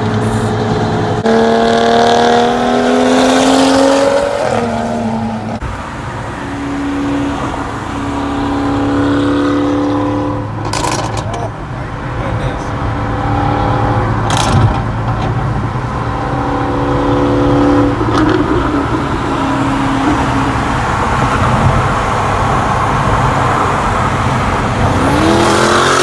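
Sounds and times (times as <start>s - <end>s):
engine revving: 0.0s - 5.6s, 6.6s - 11.5s, 12.6s - 26.0s
car engine and road noise: 0.0s - 26.0s.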